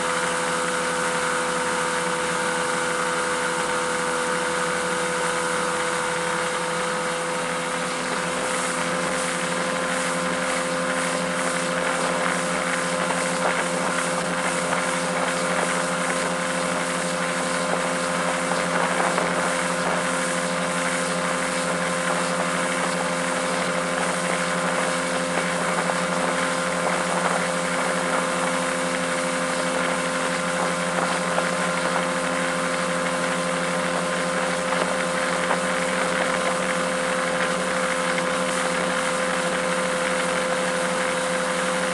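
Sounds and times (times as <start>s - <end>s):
outboard motor running: 0.0s - 41.9s
rushing water: 0.0s - 41.9s
wind: 0.0s - 41.9s.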